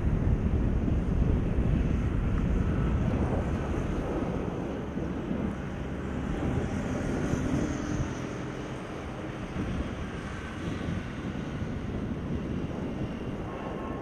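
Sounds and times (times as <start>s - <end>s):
open-air ambience: 0.0s - 14.0s
wind buffeting microphone: 0.0s - 14.0s.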